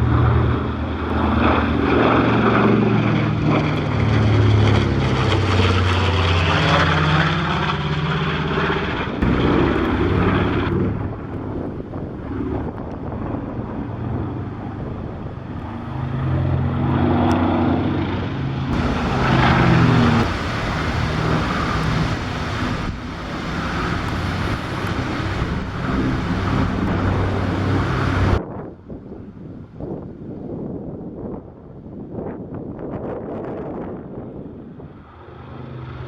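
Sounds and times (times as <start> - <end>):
propeller plane flying past: 0.0 - 28.4, 33.8 - 36.0.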